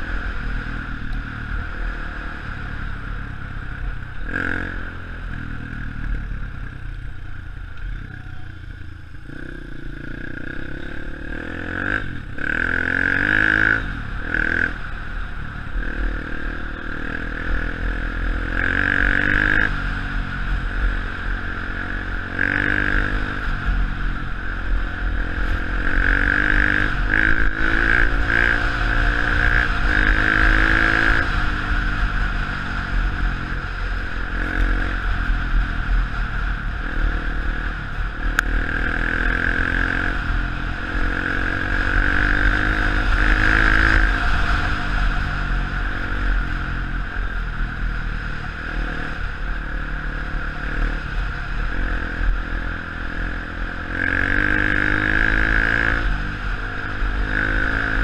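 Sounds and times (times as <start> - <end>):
dirt bike engine revving: 4.2 - 6.2, 9.2 - 14.9, 15.7 - 58.0.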